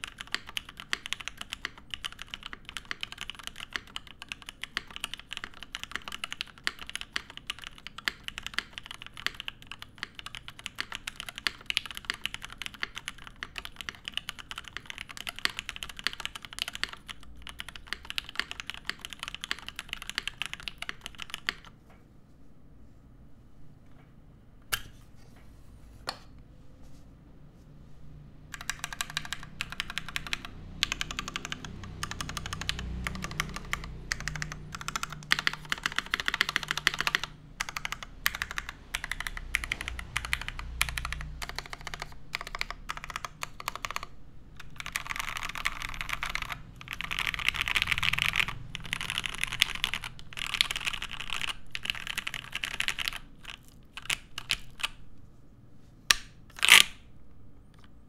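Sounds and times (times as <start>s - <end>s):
fast mechanical keyboard typing: 0.0s - 21.8s, 28.5s - 55.0s, 56.6s - 57.0s.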